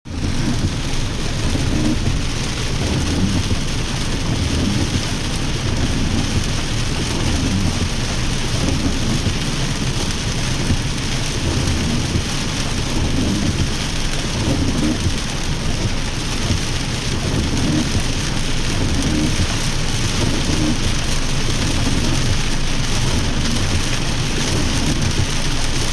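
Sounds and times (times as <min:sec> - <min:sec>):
heavy rain falling: 0:00.0 - 0:25.9
low rumble: 0:00.1 - 0:25.9.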